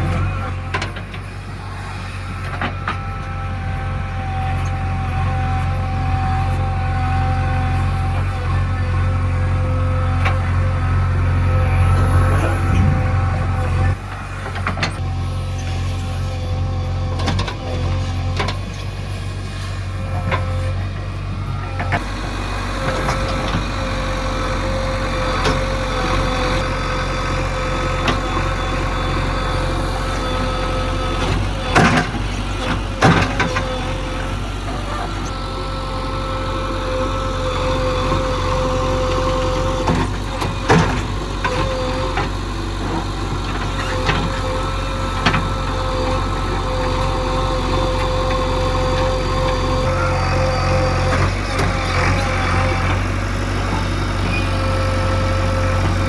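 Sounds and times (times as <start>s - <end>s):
diesel engine running: 0.0s - 56.0s
steady whine: 7.7s - 17.6s, 18.4s - 56.0s.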